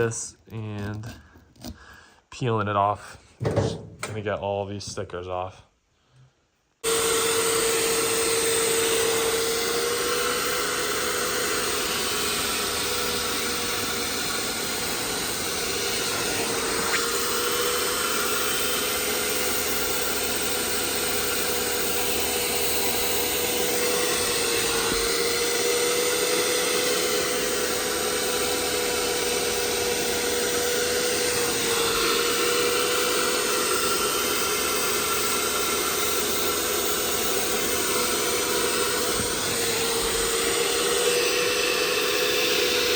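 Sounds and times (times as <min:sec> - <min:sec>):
electric blower motor whining: 0:06.8 - 0:42.9.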